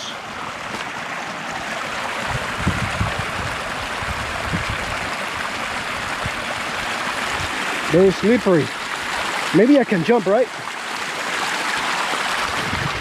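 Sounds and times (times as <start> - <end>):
water running over rock: 0.0 - 13.0.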